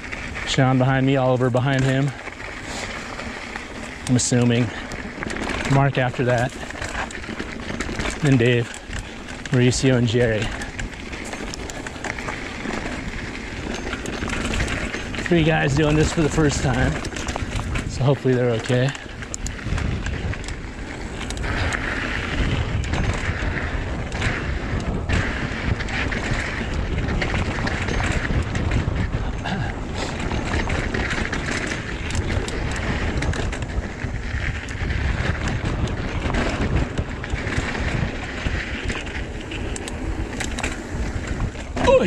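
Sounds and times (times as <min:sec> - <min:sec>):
bike rattles and clicks: 0:00.0 - 0:42.0
bike tyre noise on dirt: 0:00.0 - 0:42.0
wind buffeting microphone: 0:00.0 - 0:42.0.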